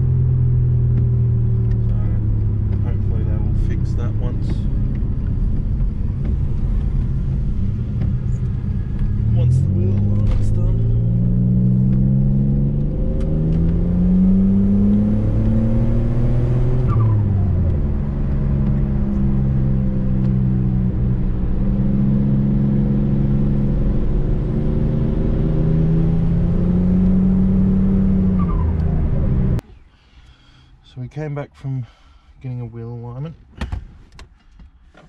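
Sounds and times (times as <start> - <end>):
car engine from inside cabin: 0.0 - 29.6
low rumble: 0.0 - 29.6.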